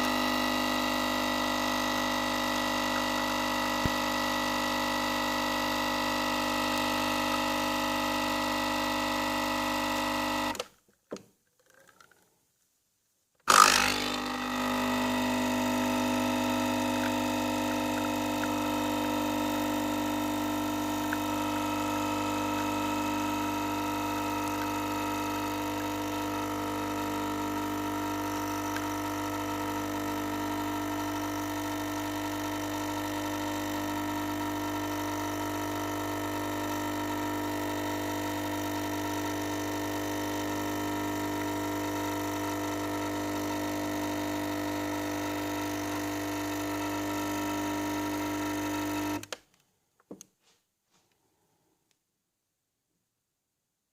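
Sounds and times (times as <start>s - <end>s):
coffee machine pump humming: 0.0s - 10.6s, 13.5s - 49.3s.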